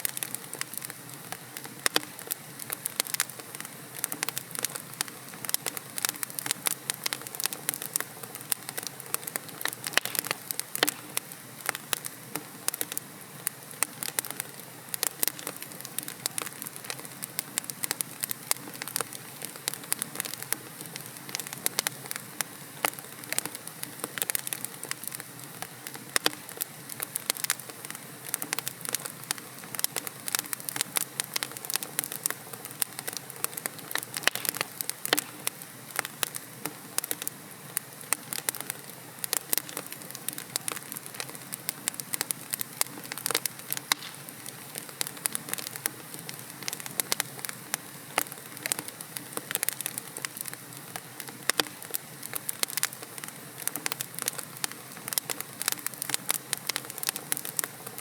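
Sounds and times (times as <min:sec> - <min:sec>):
low steady hiss: 0:00.0 - 0:58.0
wood fire crackling and popping: 0:00.0 - 0:58.0.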